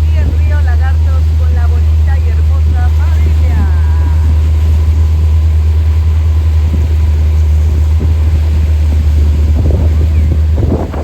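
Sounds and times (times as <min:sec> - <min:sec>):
boat motor rumbling: 0:00.0 - 0:11.0
wind buffeting microphone: 0:00.0 - 0:11.0.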